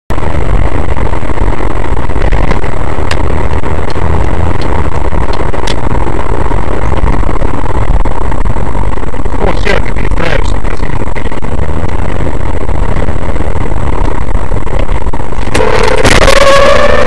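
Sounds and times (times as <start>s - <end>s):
road and engine rumble in car: 0.1s - 16.8s.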